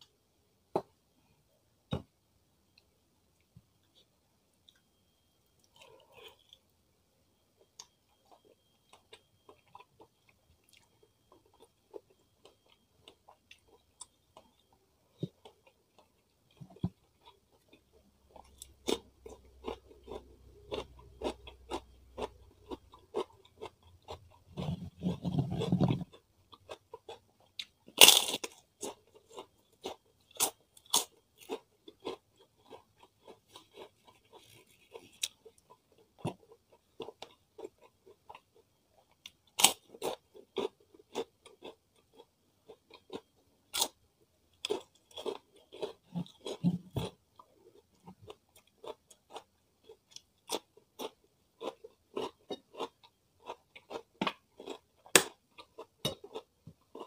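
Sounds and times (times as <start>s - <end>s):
crunching and chewing cracker: 5.6s - 6.7s, 7.6s - 57.0s.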